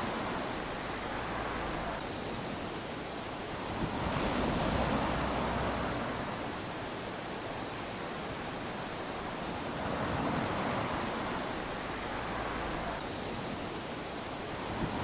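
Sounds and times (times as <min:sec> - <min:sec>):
small waves lapping on a beach: 0:00.0 - 0:15.0.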